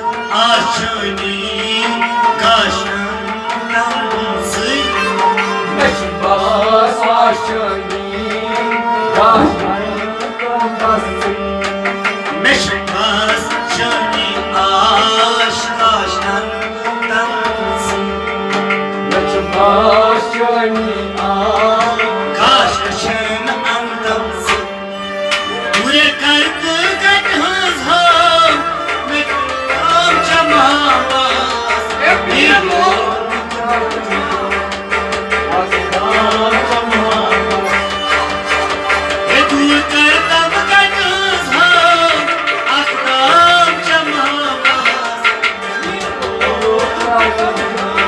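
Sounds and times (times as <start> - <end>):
person singing: 0.0 - 48.0
tabla drumming: 0.0 - 48.0.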